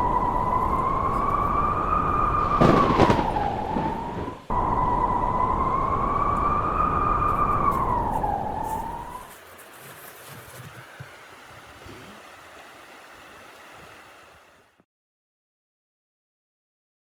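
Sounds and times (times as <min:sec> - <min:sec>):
howling blizzard wind: 0:00.0 - 0:14.8.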